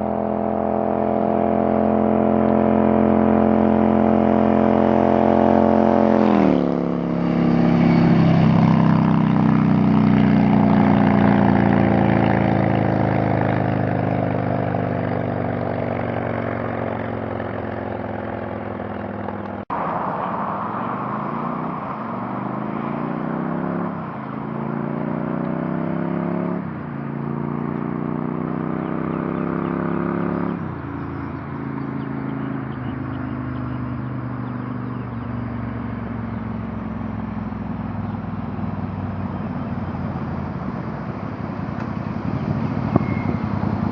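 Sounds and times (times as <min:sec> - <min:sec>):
motorcycle engine and loud exhaust: 0:00.0 - 0:43.9.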